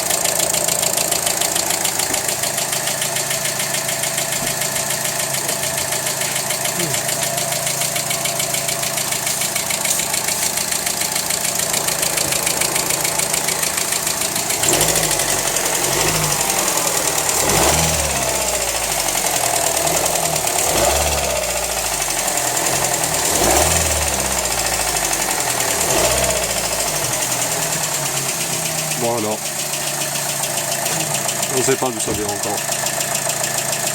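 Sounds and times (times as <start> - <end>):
car engine idling with ticking knock: 0.0 - 33.9
engine revving throttle blips: 5.4 - 32.7.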